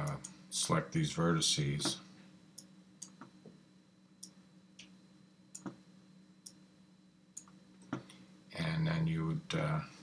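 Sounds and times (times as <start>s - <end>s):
low room tone hum: 0.0s - 10.0s.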